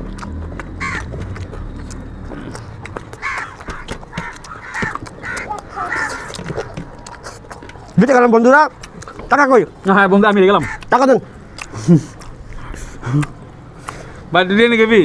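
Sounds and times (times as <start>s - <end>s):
hands clicking in food: 0.0s - 9.5s, 10.3s - 14.1s
wet chewing and smacking: 0.0s - 15.0s.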